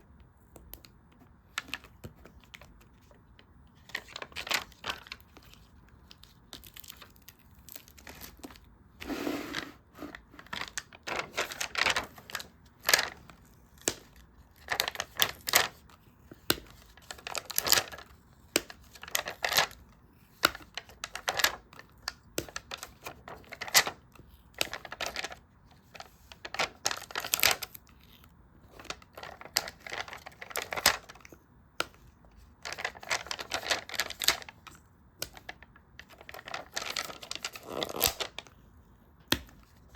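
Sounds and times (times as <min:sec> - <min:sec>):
paper rustling and crinkling: 0:00.8 - 0:38.6.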